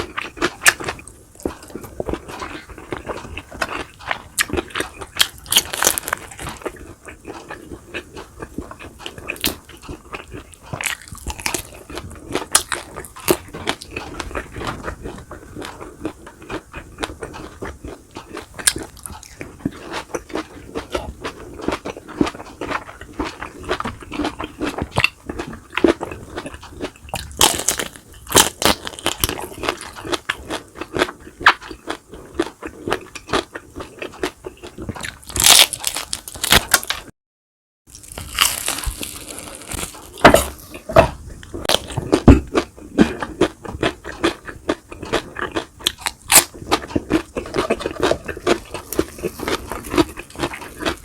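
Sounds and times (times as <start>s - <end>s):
person chewing crunchy food: 0.0s - 37.1s, 37.9s - 51.0s.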